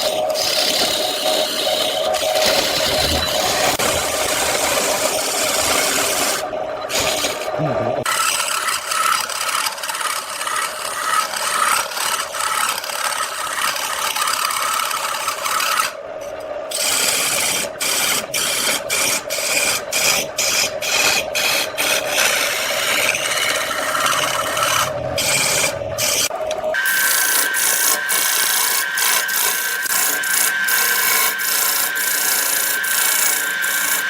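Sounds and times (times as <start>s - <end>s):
faint lathe hum: 0.0s - 34.0s
tool scraping spinning wood: 0.0s - 34.0s.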